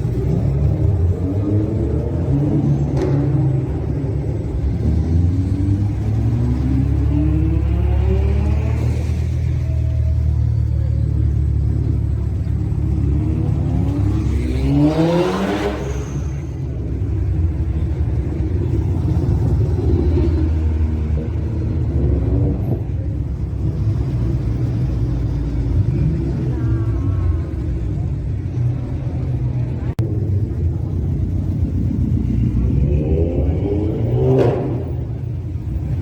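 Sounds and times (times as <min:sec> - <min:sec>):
car engine and exhaust rumbling: 0:00.0 - 0:36.0.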